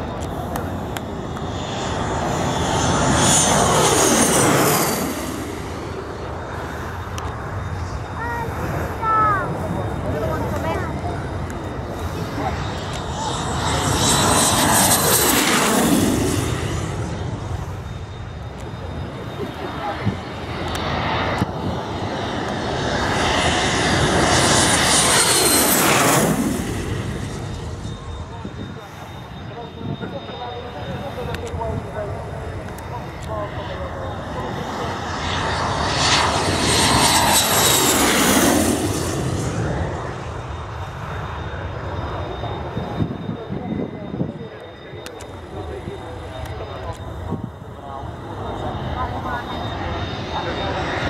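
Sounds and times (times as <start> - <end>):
jet passing overhead: 0.0 - 51.0.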